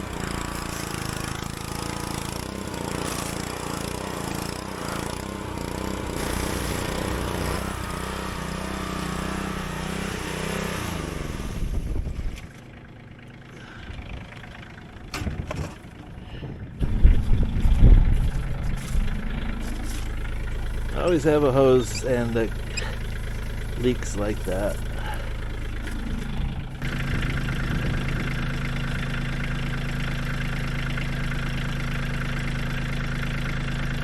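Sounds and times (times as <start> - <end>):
tractor diesel engine: 0.0 - 34.0.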